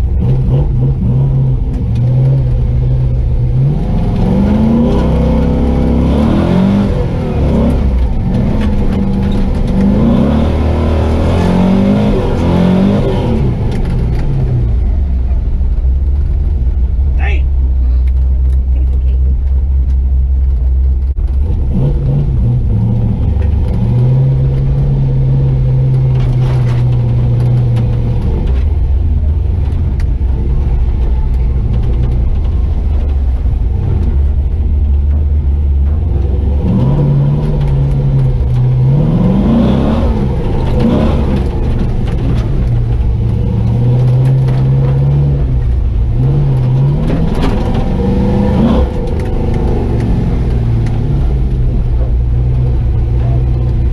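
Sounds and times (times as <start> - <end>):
truck engine revving under load: 0.0 - 19.2, 21.1 - 53.9.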